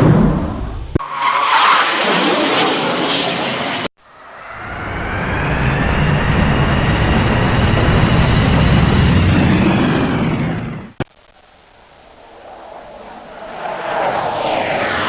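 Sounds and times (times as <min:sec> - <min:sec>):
aeroplane engine roar: 0:00.0 - 0:11.0, 0:12.2 - 0:15.0.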